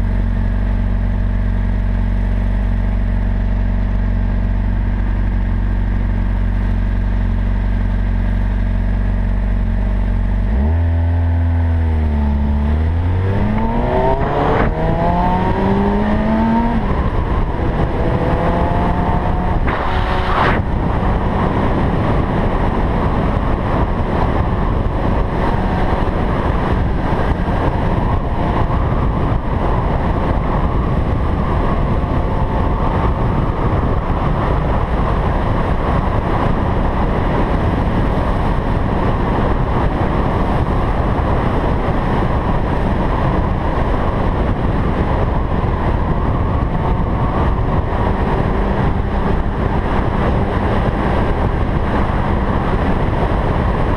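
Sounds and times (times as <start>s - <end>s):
motorcycle engine: 0.0s - 53.9s
wind rushing over microphone: 0.0s - 53.9s.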